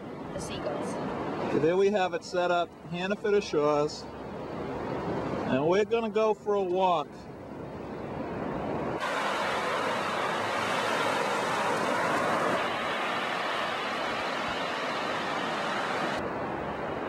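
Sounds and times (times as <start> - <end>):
ocean surf washing on beach: 0.0 - 17.0.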